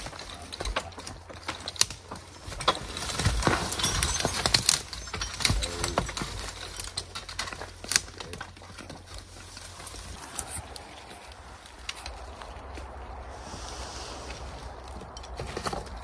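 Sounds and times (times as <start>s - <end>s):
horse hoofbeats: 0.0s - 13.1s.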